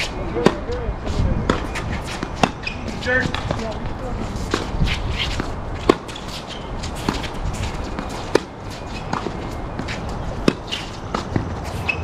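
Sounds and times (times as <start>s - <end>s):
shoes scuffing on hard court: 0.0s - 12.0s
tennis ball struck by rackets: 1.5s - 3.6s, 4.4s - 12.0s.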